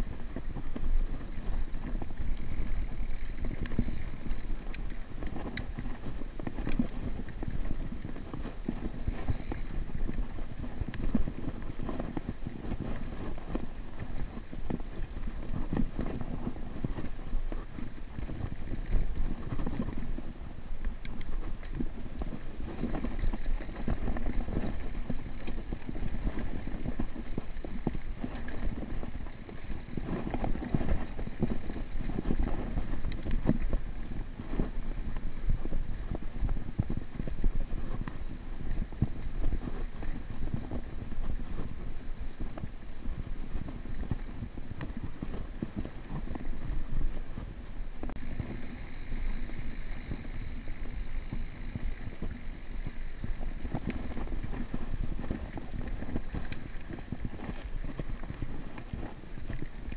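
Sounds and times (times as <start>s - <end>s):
bike rattling over stones: 0.0s - 59.9s
low rumble of tyres rolling: 0.0s - 59.9s.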